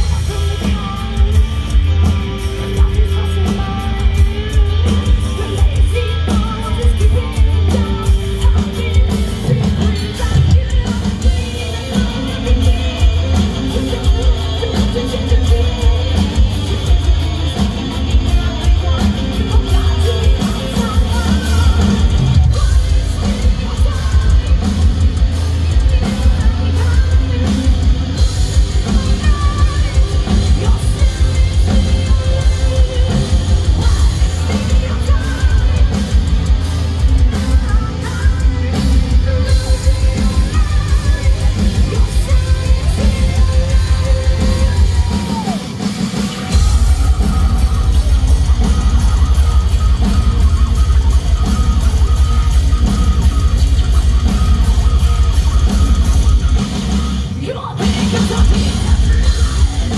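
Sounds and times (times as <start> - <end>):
woman singing: 0.0 - 52.8, 56.2 - 59.9
drum kit with pounding kick: 0.0 - 57.2, 57.8 - 59.9
electric guitars: 0.0 - 59.9.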